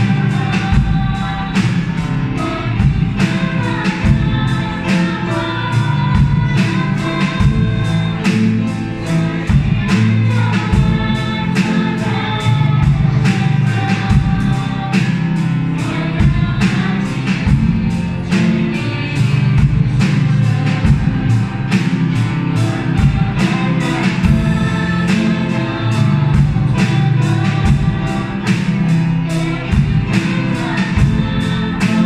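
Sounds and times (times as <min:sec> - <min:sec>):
song with singing over a beat: 0:00.0 - 0:32.0.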